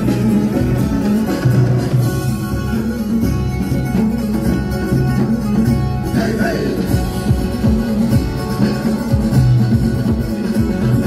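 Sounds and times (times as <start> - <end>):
plucked strings over low beat: 0.0 - 11.0.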